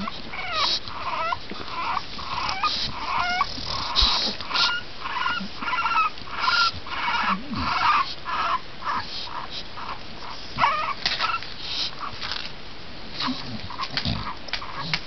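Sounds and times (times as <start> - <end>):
puppies squeaking and whimpering: 0.0 - 12.4, 13.2 - 15.0
puppy whining: 0.0 - 12.4, 13.2 - 15.0.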